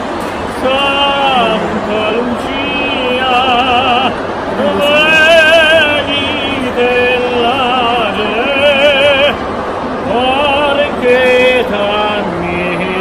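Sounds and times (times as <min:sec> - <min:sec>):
man singing operatically: 0:00.5 - 0:09.4, 0:10.0 - 0:13.0.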